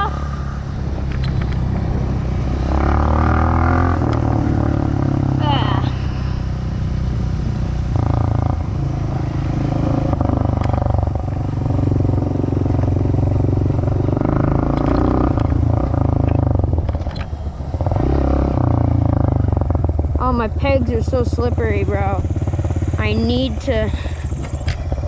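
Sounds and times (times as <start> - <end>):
dirt bike engine under throttle: 0.0 - 25.0.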